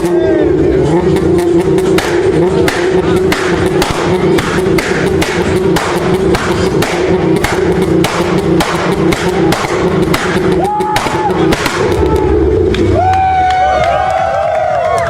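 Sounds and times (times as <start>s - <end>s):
sharp exhaust bangs: 0.0s - 14.0s
car engine on launch limiter: 0.0s - 14.3s.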